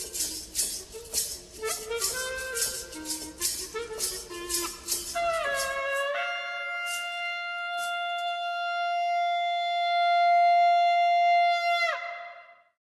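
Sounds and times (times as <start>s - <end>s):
music long held note: 0.0s - 12.7s.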